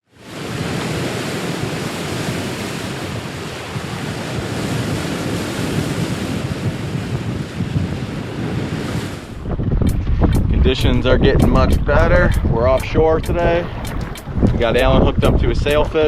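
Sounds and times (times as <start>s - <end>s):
wind and sea rushing: 0.0s - 16.0s
wind buffeting microphone: 0.2s - 16.0s.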